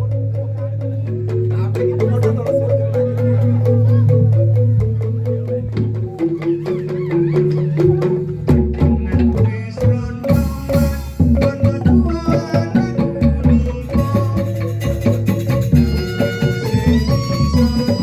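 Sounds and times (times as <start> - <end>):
hand drum strokes: 0.0 - 18.0
traditional melody: 0.0 - 18.0.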